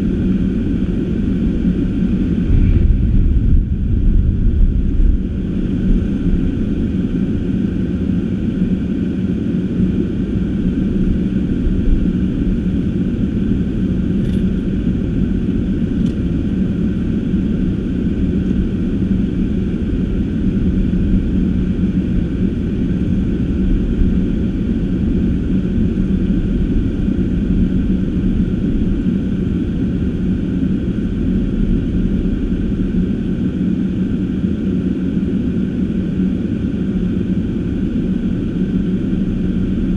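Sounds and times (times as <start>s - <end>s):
car engine and tyre rumble: 0.0s - 35.3s.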